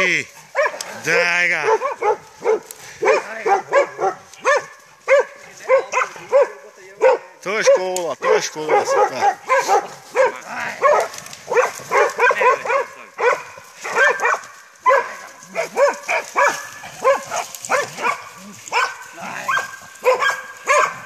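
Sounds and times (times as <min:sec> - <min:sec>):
dogs barking: 0:00.0 - 0:21.0
dog yelping: 0:00.4 - 0:21.0.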